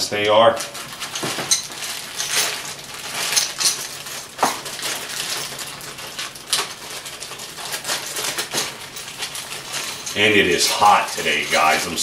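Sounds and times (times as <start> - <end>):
metal wrenches clinking: 0.6 - 12.0.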